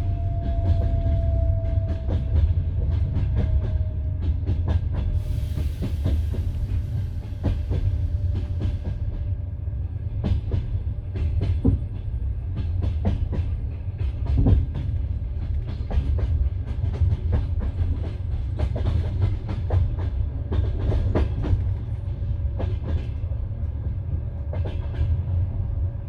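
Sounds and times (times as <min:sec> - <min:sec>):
train carriage rumbling: 0:00.0 - 0:26.0.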